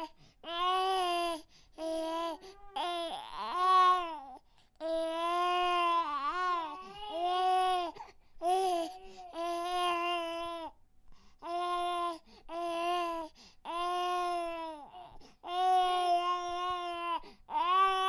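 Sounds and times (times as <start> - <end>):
infant crying: 0.0 - 10.8, 11.4 - 18.0.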